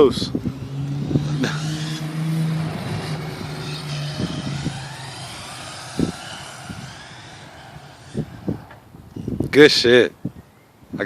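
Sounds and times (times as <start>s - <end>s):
rc car motor whining: 0.2s - 9.4s.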